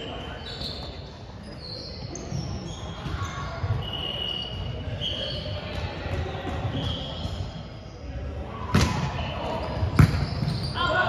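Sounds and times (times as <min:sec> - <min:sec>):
sneakers squeaking on court: 0:00.0 - 0:07.9, 0:08.7 - 0:11.0.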